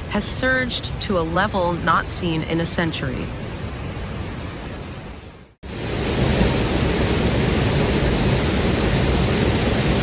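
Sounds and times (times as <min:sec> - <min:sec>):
flooded river roaring: 0:00.1 - 0:10.0.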